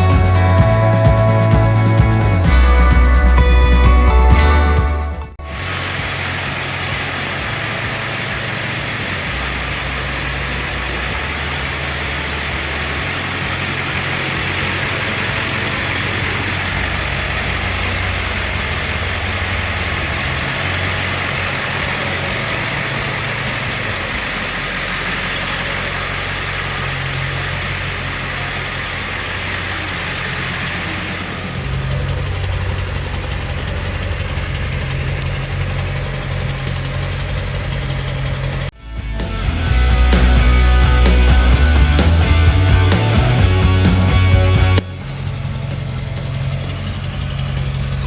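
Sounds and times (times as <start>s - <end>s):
diesel truck engine running: 0.0s - 48.0s.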